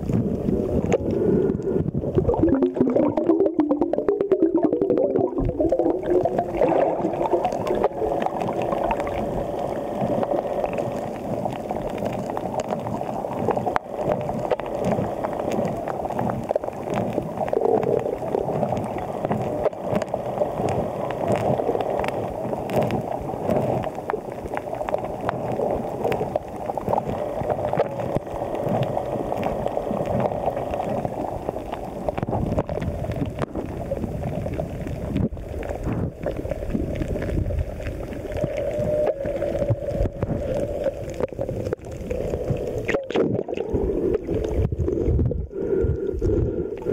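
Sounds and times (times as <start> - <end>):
crackle of small clicks: 0.0 - 46.9
underwater gurgling and sloshing: 0.0 - 46.9.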